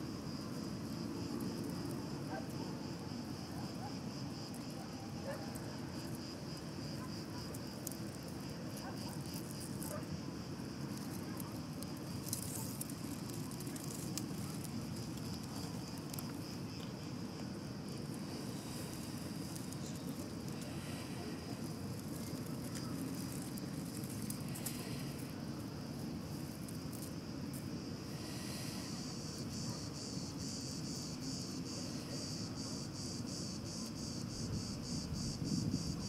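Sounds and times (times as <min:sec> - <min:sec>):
insects buzzing: 0:00.0 - 0:36.0.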